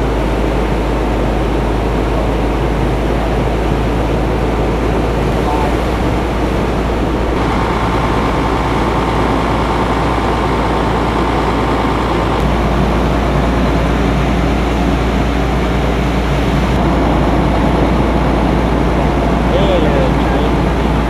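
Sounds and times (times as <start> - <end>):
truck driving through water: 0.0 - 21.0.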